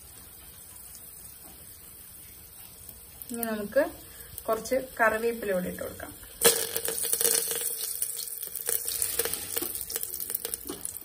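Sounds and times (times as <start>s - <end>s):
leaves spluttering in hot oil: 0.0s - 11.0s.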